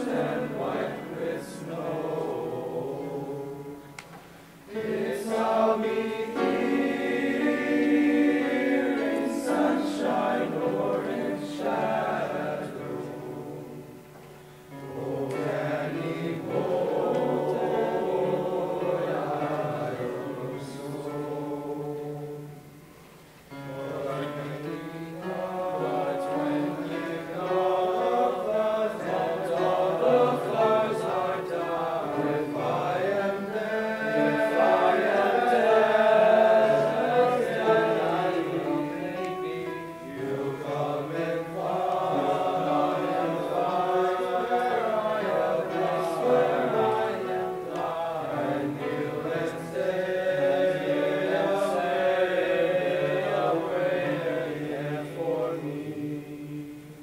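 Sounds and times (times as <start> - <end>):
boys' choir singing in harmony: 0.0 - 57.0.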